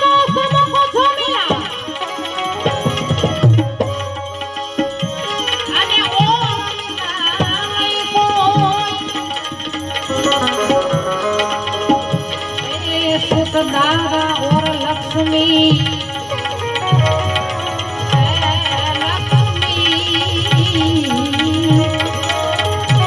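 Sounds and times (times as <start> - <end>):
ornamented instrumental melody: 0.0 - 23.0
tabla beat: 0.0 - 23.0.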